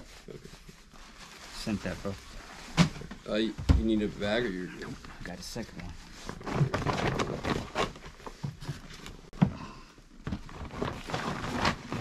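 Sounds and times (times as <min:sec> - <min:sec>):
rustling: 0:00.0 - 0:09.4, 0:10.2 - 0:12.0.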